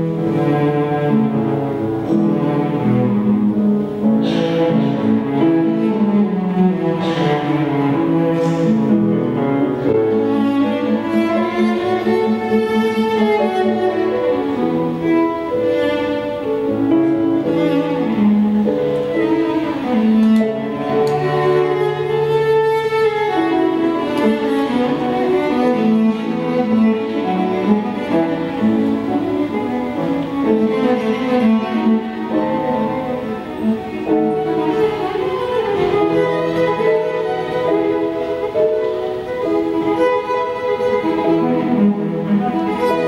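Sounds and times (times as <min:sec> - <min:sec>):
bowed cello melody: 0:00.0 - 0:43.0
piano accompaniment: 0:00.0 - 0:43.0.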